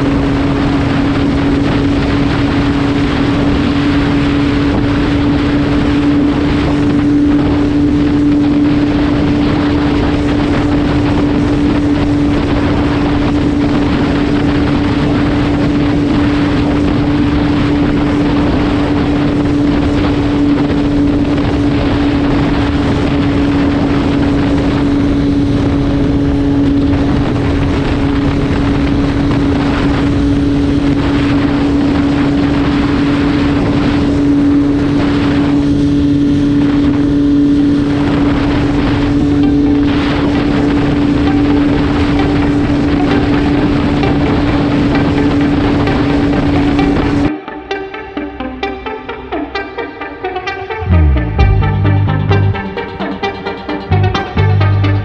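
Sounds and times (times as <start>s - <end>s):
motorcycle engine running: 0.0s - 47.3s, 50.8s - 55.0s
wind rushing over microphone: 0.0s - 47.3s.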